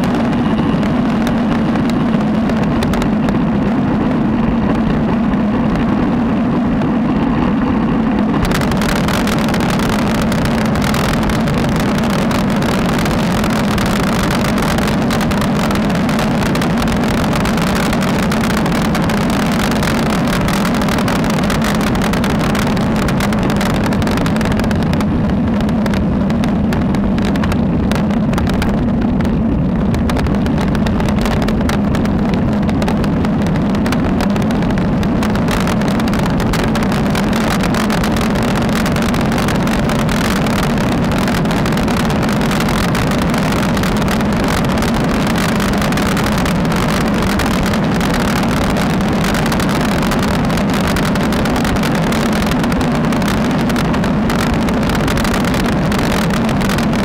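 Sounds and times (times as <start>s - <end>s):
loud wind rush: 0.0s - 57.0s
road noise: 0.0s - 57.0s.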